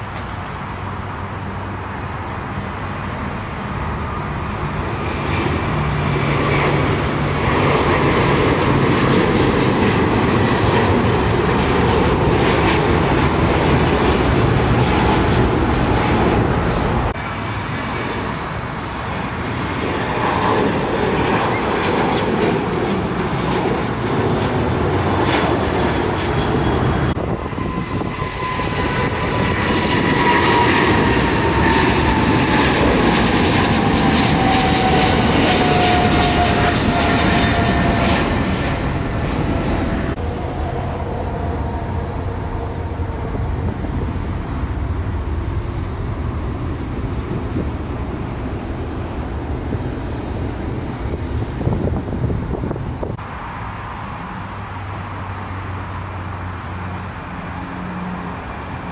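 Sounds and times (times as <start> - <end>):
jet engine roar at takeoff: 0.0 - 58.9
jet engine whine falling in pitch: 0.0 - 58.9.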